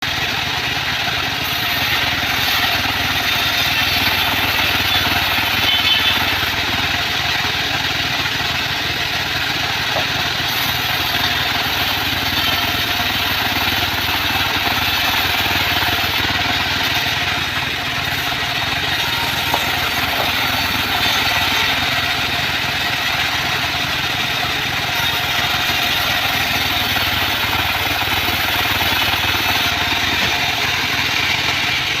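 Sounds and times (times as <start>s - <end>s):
band saw cutting wood: 0.0s - 32.0s.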